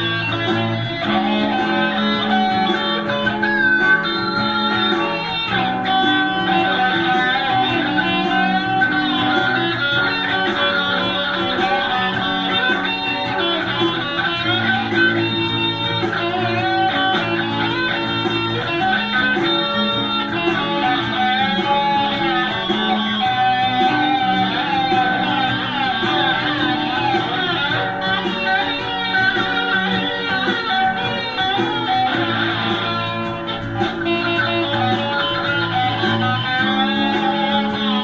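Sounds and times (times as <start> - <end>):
plucked guitar music: 0.0 - 38.0.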